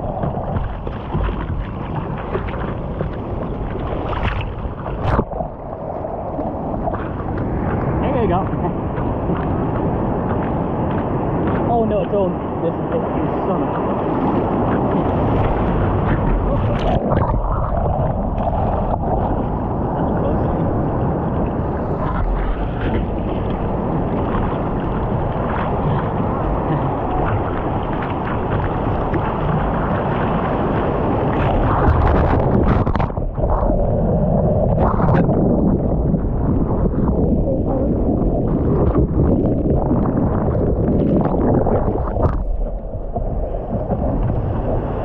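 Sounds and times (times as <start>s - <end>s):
water splashing against surfboard: 0.0s - 45.0s
wave whitewater washing over board: 0.0s - 45.0s
wind buffeting microphone: 0.0s - 45.0s.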